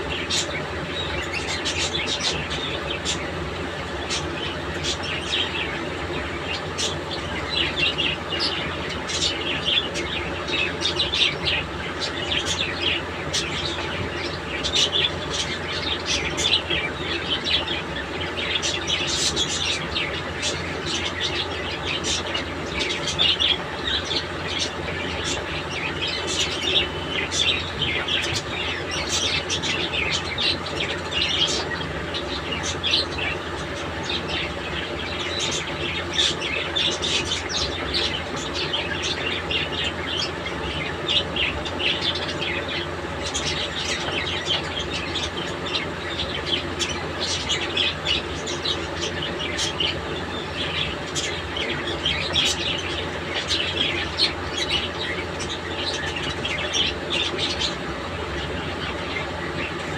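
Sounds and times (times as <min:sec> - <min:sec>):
budgerigars chirping: 0:00.0 - 0:59.9
steady low hum: 0:00.0 - 0:59.9.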